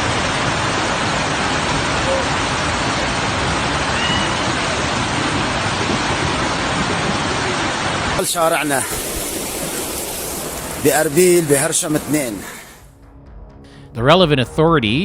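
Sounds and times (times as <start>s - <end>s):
rush of flooding water: 0.0s - 12.9s.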